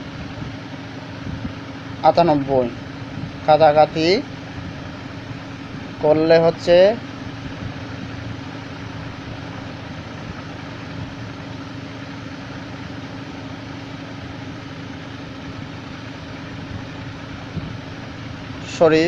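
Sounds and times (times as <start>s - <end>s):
machine hum with hiss: 0.0s - 19.0s.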